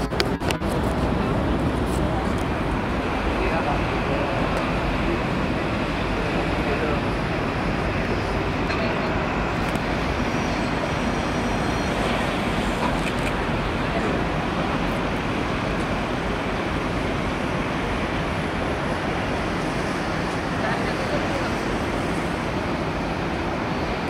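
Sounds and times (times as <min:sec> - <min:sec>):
steady outdoor roar: 0:00.0 - 0:24.0.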